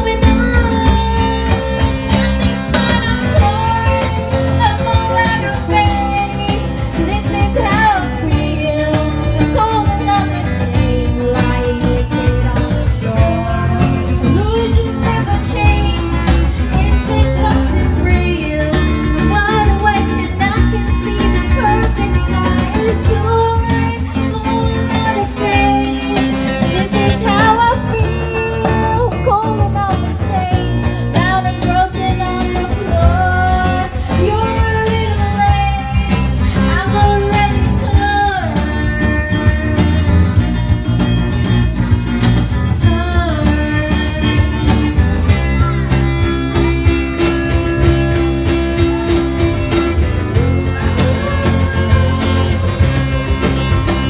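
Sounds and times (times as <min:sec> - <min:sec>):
woman singing: 0:00.0 - 0:41.4, 0:42.3 - 0:45.6, 0:46.6 - 0:54.0
acoustic guitar strumming: 0:00.0 - 0:54.0
electric guitar: 0:00.0 - 0:54.0.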